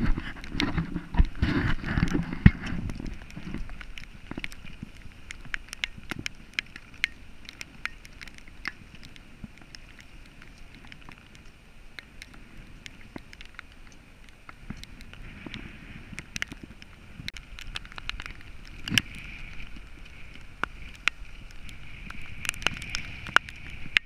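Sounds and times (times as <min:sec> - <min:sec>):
rain hissing and ticking: 0:00.0 - 0:24.0
wind buffeting microphone: 0:00.0 - 0:24.0.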